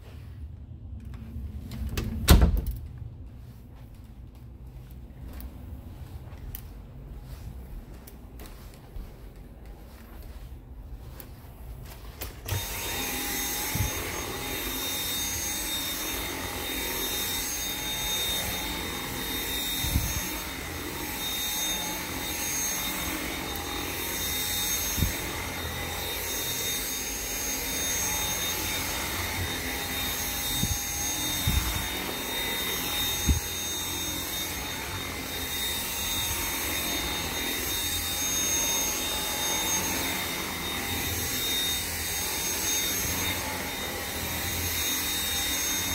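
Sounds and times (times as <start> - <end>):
vacuum cleaner motor whine: 7.3 - 45.9.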